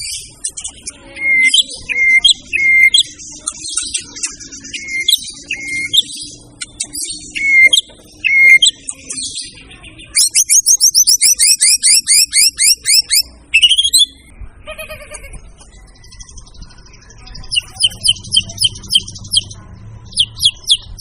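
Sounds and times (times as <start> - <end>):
bird singing whistled notes: 0.0 - 14.3, 15.8 - 21.0.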